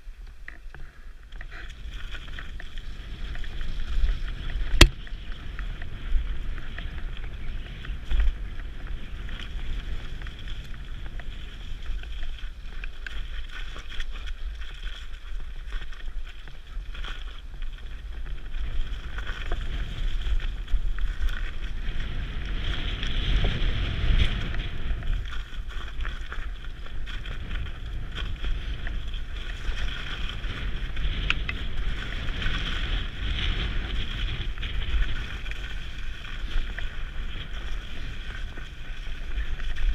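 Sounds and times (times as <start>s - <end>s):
tyre and trail noise: 0.0s - 39.9s
wind rumble on microphone: 0.0s - 39.9s.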